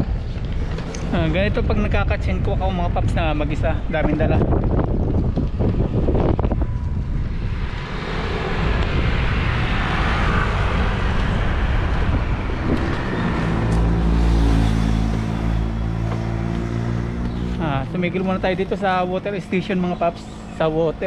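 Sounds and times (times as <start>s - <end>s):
low engine hum: 0.0s - 20.6s
wind and road noise: 0.0s - 21.0s.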